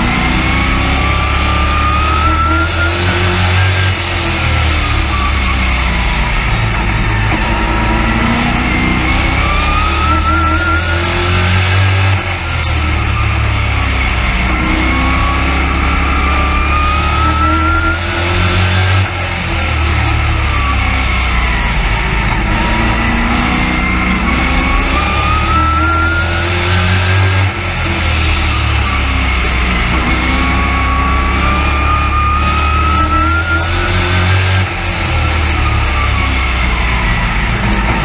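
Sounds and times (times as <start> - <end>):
truck engine revving: 0.0 - 38.0.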